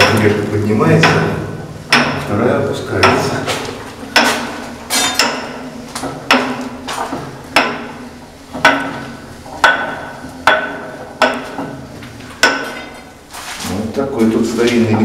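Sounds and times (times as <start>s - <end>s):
loud metal clanks: 0.0s - 13.2s.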